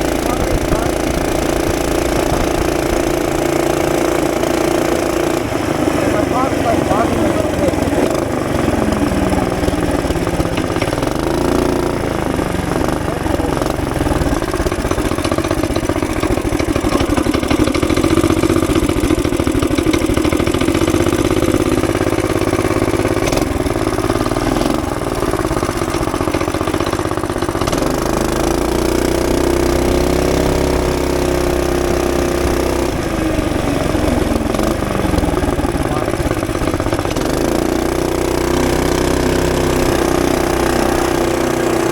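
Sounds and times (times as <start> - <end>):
small engine revving: 0.0 - 41.9.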